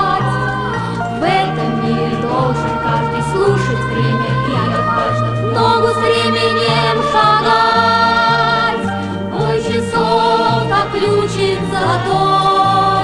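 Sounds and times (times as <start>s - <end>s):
bass line: 0.0s - 13.0s
children's choir singing: 0.0s - 13.0s
orchestral accompaniment: 0.0s - 13.0s.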